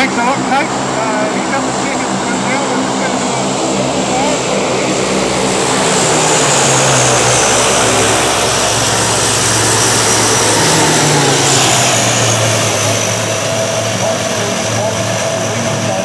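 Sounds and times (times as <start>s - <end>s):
propeller aircraft flying past: 0.0s - 16.0s.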